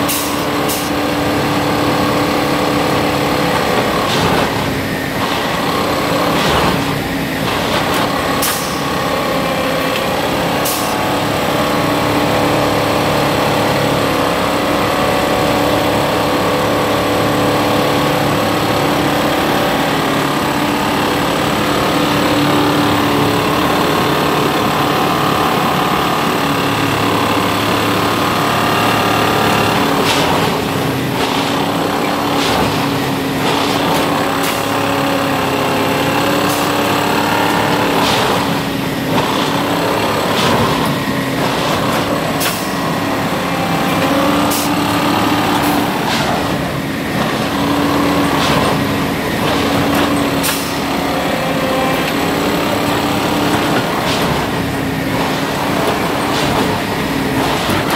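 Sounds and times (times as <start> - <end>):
diesel engine droning: 0.0 - 57.9.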